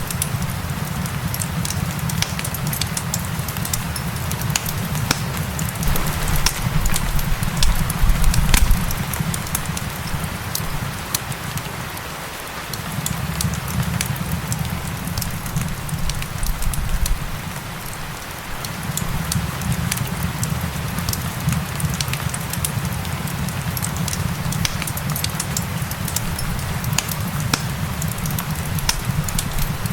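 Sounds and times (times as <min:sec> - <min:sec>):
steady rain: 0:00.0 - 0:29.9
wood fire crackling: 0:00.0 - 0:29.9.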